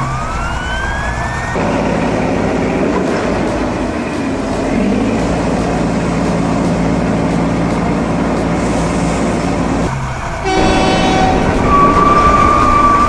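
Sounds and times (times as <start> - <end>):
heavy vehicle engine rumbling: 0.0 - 13.0
horn-like tone: 0.0 - 13.0.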